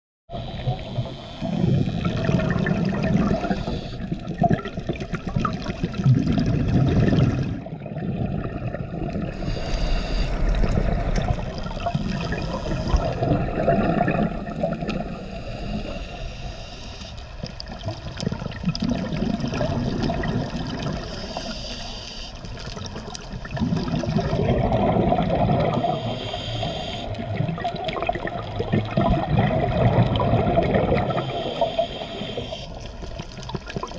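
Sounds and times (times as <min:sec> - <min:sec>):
muffled underwater sloshing: 0:00.4 - 0:33.9.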